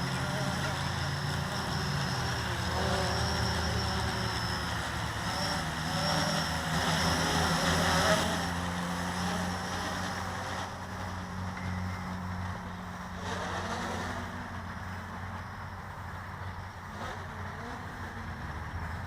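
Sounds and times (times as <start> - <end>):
quadcopter propellers buzzing: 0.0 - 19.0.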